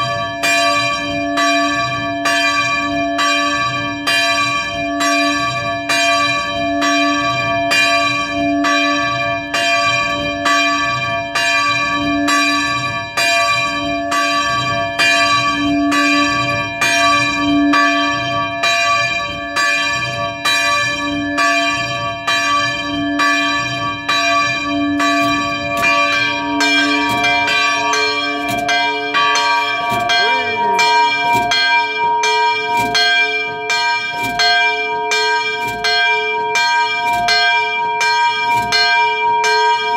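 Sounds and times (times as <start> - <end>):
church bells pealing: 0.0 - 39.9
deep bell striking: 0.0 - 39.9.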